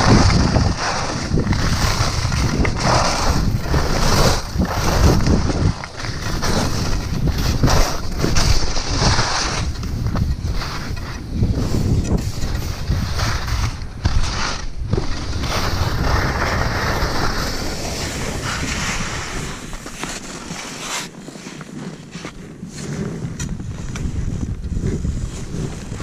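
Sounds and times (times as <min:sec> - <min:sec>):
wind buffeting microphone: 0:00.0 - 0:20.3, 0:22.7 - 0:26.0
skis scraping on snow: 0:00.0 - 0:26.0.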